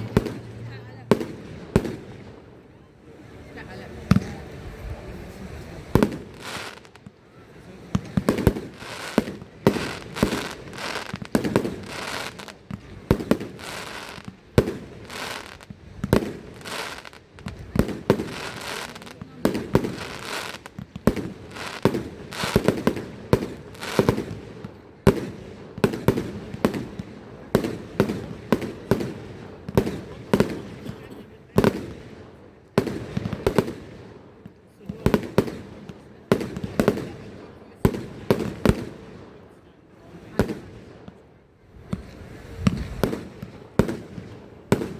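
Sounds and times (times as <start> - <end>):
fireworks bangs echoing: 0.0 - 2.6, 5.8 - 39.4, 40.2 - 41.2, 41.8 - 44.9.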